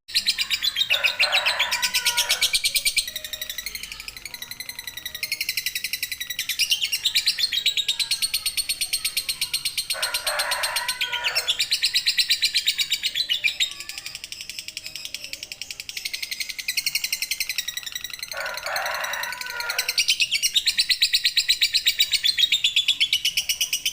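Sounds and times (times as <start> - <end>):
lovebird shrill chattering: 0.1 - 23.9.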